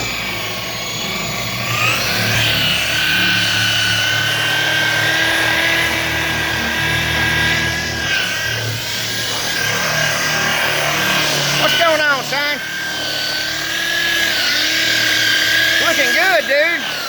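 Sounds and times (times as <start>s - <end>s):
electric polisher motor whine: 0.0s - 17.0s.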